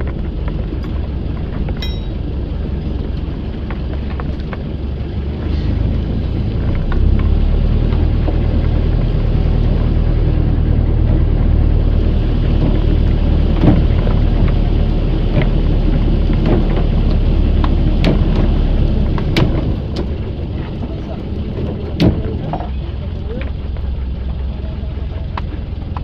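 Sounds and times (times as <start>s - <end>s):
boat engine running: 0.0s - 26.0s
rushing water: 0.0s - 26.0s.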